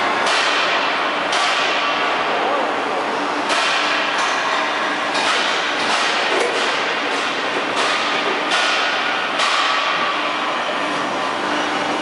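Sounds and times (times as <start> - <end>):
machinery din and hum: 0.0 - 12.0.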